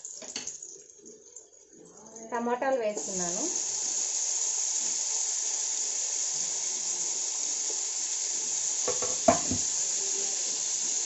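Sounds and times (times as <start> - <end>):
vegetables sizzling in hot oil: 0.0 - 1.0, 2.2 - 11.0.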